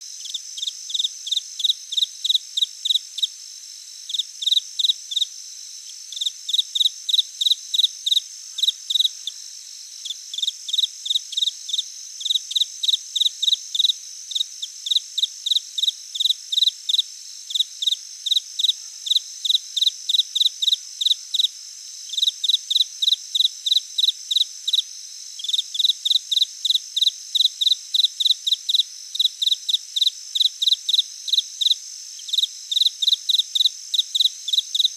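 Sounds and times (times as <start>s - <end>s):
insects chirping: 0.1s - 34.9s.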